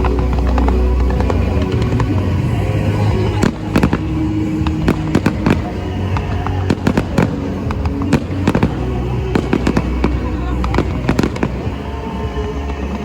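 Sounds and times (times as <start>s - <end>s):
fireworks cracking and banging: 0.0s - 13.0s
low rumble: 0.0s - 13.0s.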